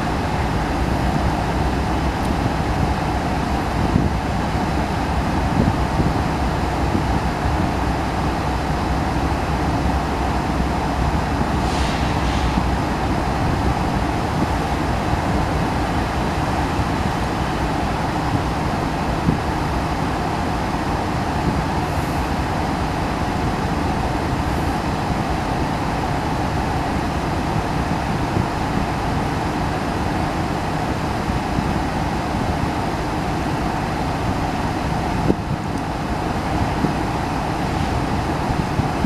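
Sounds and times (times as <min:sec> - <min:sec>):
freight train rumbling past: 0:00.0 - 0:39.0.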